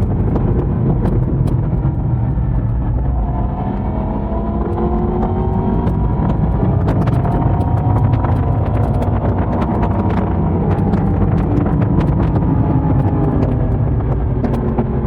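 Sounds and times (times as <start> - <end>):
motorcycle engine accelerating: 0.0 - 15.0
wind rumble on microphone: 0.0 - 15.0.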